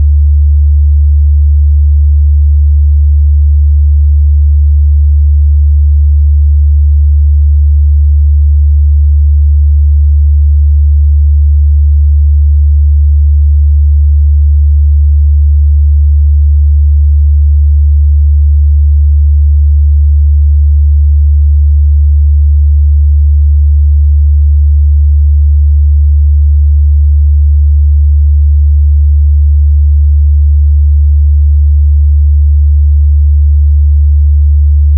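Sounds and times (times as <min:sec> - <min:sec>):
low sine-wave test tone: 0:00.0 - 0:34.9.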